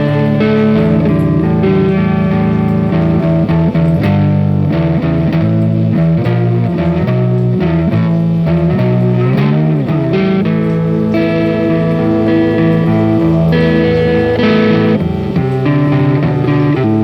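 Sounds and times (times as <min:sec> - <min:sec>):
plucked guitar notes: 0:00.0 - 0:17.0.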